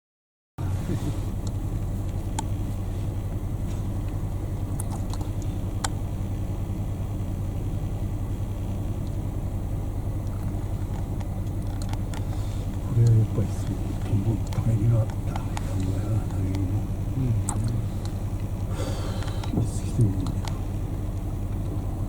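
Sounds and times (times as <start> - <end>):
engine idling hum: 0.6 - 22.0.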